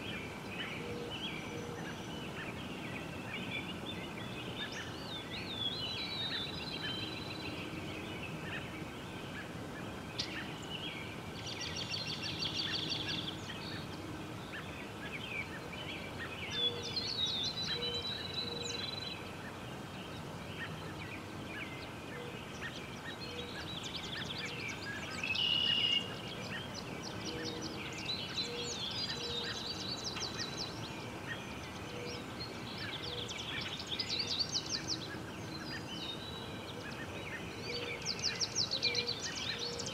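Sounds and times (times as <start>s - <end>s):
outdoor background noise: 0.0s - 39.9s
songbirds singing: 0.0s - 39.9s.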